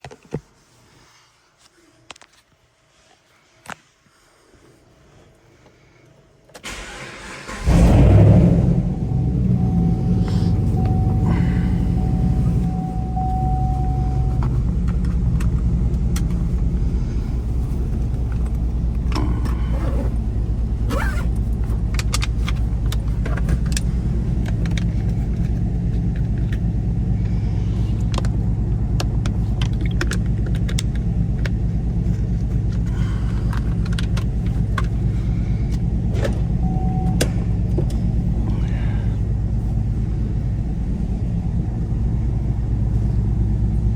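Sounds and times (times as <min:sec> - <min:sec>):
car engine cruising: 0:06.6 - 0:43.9.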